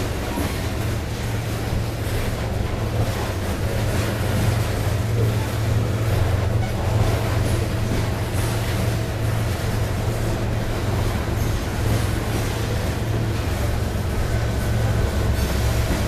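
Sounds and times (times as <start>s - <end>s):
freight train rumbling past: 0.0s - 16.0s
rail noise: 0.0s - 16.0s.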